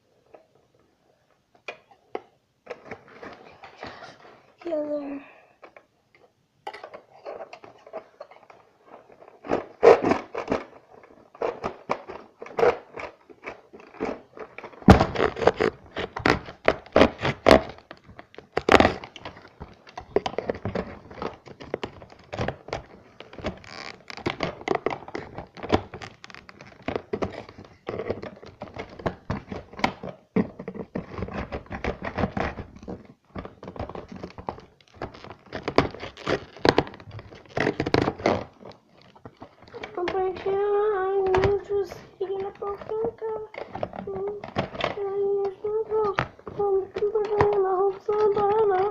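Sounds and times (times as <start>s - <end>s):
packaging scraping and crackling: 1.8s - 5.0s, 5.6s - 48.9s.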